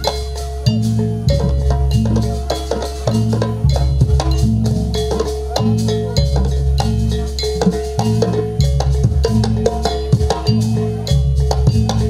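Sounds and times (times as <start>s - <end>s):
drum and wooden strokes: 0.0s - 12.0s.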